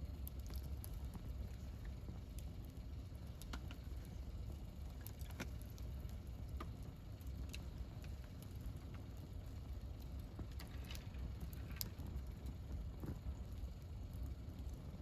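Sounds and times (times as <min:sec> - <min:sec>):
campfire crackling and popping: 0:00.0 - 0:15.0
fire rumbling: 0:00.0 - 0:15.0.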